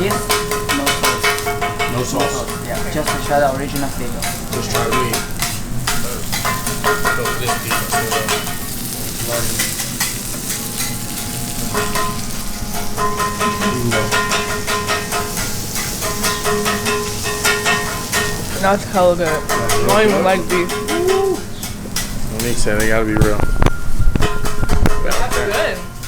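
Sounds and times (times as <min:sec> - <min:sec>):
beef sizzling on a griddle: 0:00.0 - 0:26.0.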